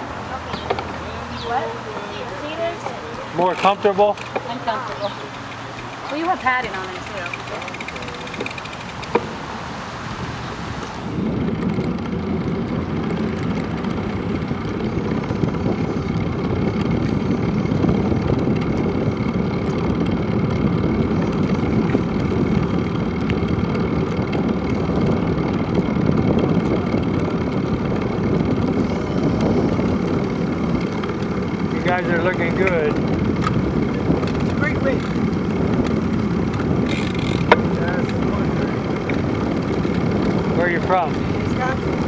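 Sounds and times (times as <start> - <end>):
bicycle road noise: 0.0 - 42.0
rushing wind: 0.0 - 42.0.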